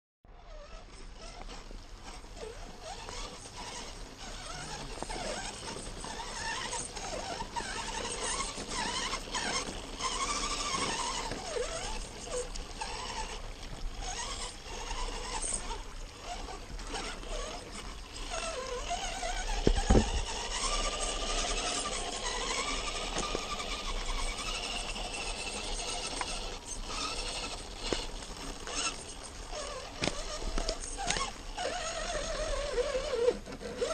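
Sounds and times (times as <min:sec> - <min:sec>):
toy truck electric motor whining: 0:00.3 - 0:33.9.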